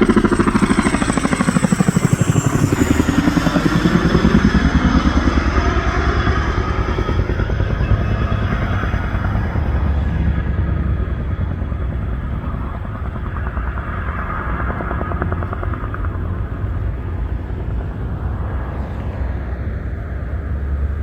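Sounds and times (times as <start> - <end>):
helicopter flying over: 0.0 - 21.0.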